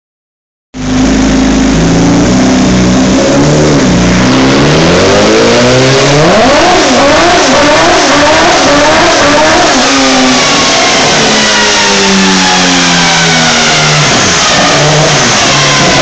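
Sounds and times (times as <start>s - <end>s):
engine revving on a dyno: 0.8s - 16.0s.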